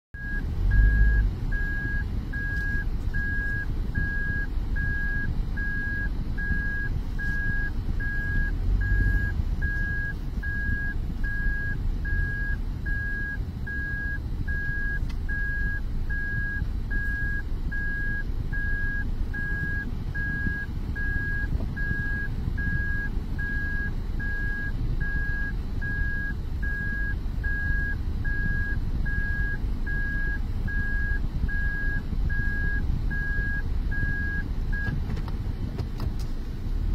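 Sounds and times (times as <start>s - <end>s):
car engine and tyres rumbling: 0.1s - 36.9s
reverse warning beeps: 0.2s - 35.0s.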